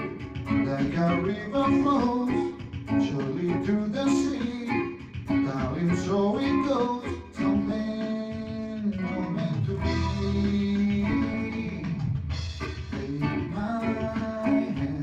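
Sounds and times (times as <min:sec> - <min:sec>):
bass guitar: 0:00.0 - 0:15.0
plucked guitar melody: 0:00.0 - 0:15.0.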